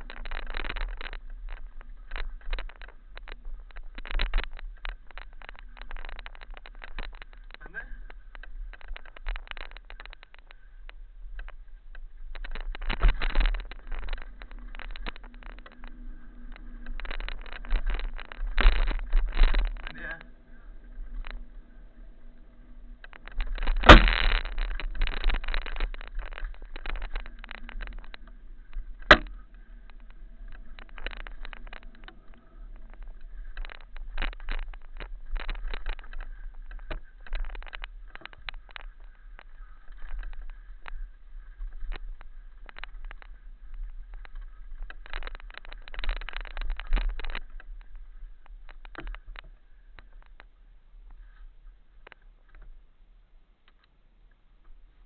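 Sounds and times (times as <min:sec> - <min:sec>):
rattling over rocky trail: 0:00.0 - 0:52.9
wind rumble on microphone: 0:00.0 - 0:52.9.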